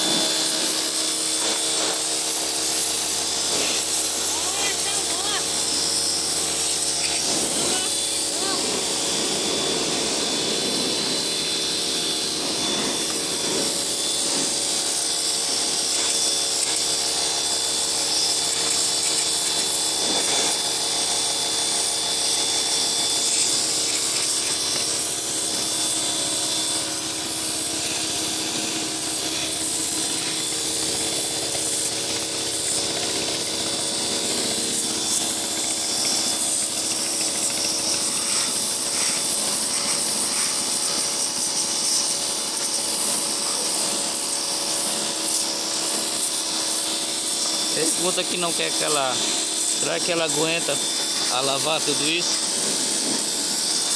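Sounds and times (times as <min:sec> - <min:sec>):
pressure washer motor hum: 0:00.0 - 0:53.9
water jet hissing: 0:00.0 - 0:53.9.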